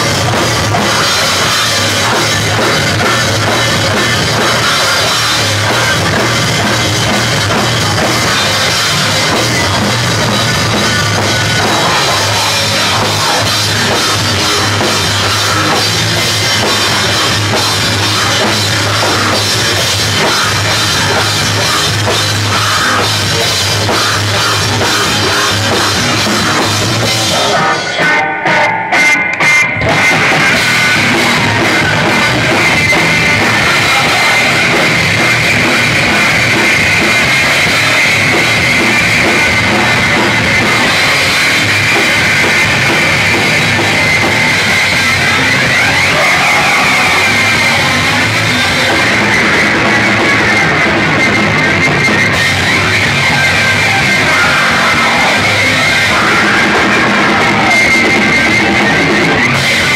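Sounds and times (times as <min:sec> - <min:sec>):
punk band playing live: 0:00.0 - 0:59.9.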